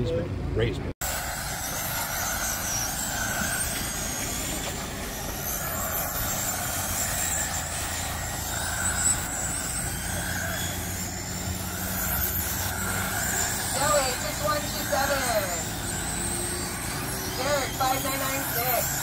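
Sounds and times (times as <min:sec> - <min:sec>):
rc car motors whining: 0:01.0 - 0:19.0.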